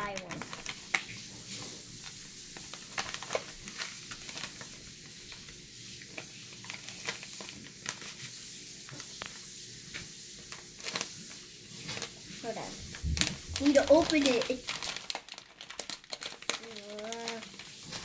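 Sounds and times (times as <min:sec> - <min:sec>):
plastic candy wrapper crinkling: 0:00.0 - 0:18.0.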